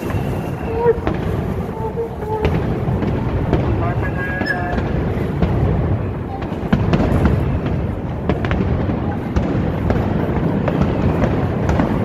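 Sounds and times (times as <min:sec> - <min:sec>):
fireworks rumbling and cracking: 0:00.0 - 0:12.0.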